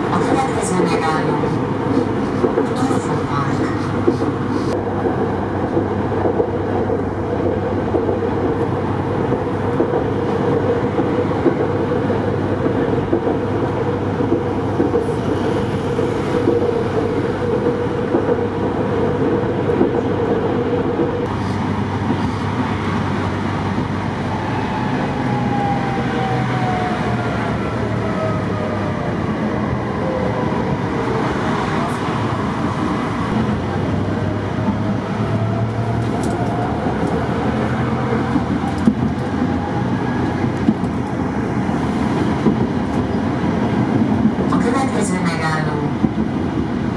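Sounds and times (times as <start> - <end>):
tram wheels rumbling on rails: 0.0 - 46.9.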